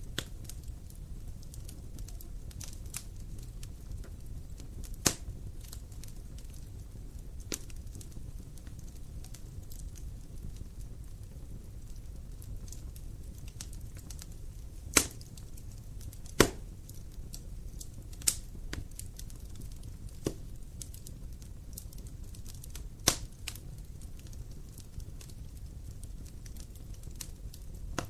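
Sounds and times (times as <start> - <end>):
sharp pops of fire: 0.0 - 28.0
wood fire crackling: 0.0 - 28.0.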